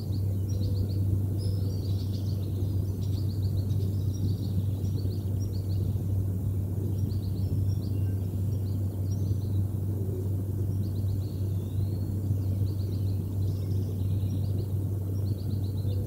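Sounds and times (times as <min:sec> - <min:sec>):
songbirds chirping: 0:00.0 - 0:16.0
steady low hum: 0:00.0 - 0:16.0.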